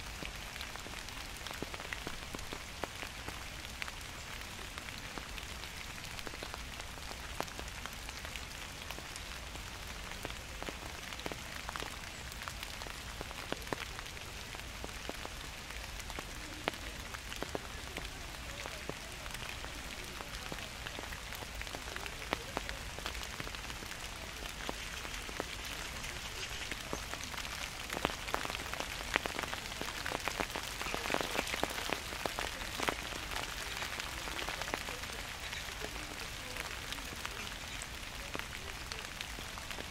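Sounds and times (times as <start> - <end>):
gentle rain falling: 0.0 - 39.9
raindrops ticking on surface: 0.0 - 39.9.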